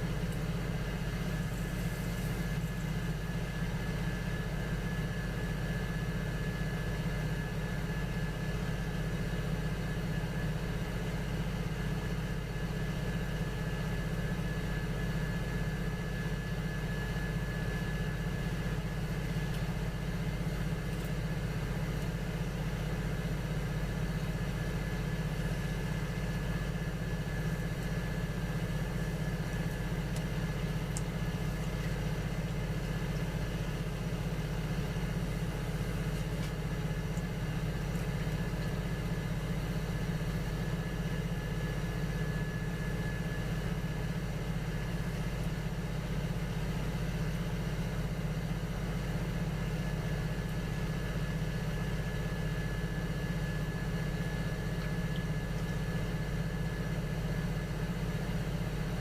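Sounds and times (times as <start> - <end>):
potter's wheel motor hum: 0.0 - 59.0.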